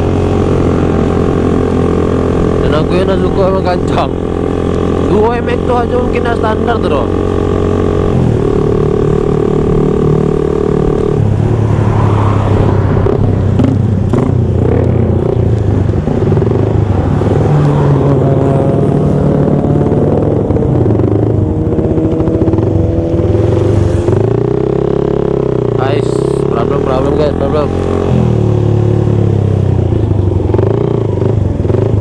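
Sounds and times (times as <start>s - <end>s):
small motorcycle engines revving: 0.0s - 32.0s.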